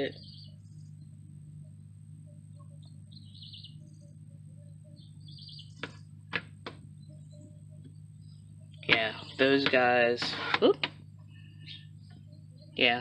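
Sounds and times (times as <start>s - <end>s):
faint bird chirps: 0.0s - 6.1s, 6.9s - 13.0s
low steady hum: 0.0s - 13.0s.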